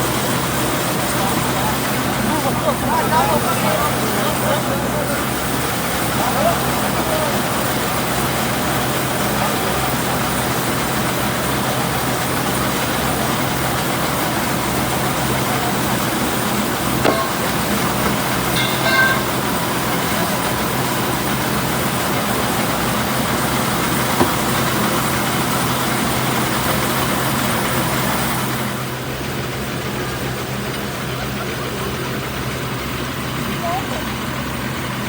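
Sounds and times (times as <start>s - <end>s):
road noise: 0.0s - 35.0s
truck engine droning: 0.0s - 35.0s.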